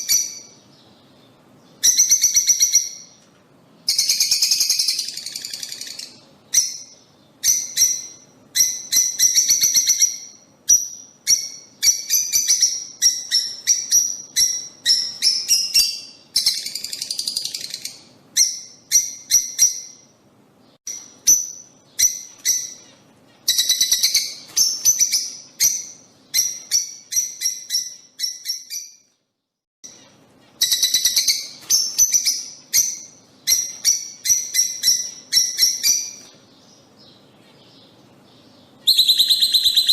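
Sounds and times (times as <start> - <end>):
birds chattering and chirping: 0.0 - 29.1, 29.8 - 39.9.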